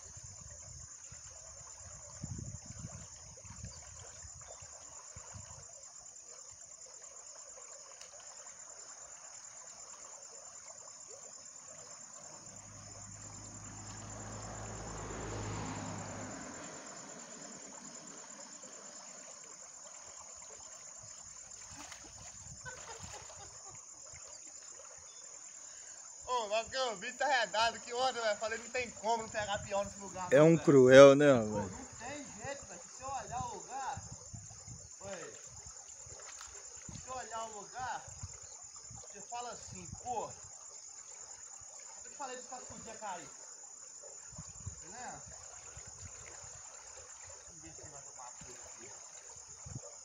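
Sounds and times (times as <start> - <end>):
faint wading splashes: 0.0 - 50.0
insects chirring: 0.0 - 50.0
stream water trickling: 0.0 - 50.0.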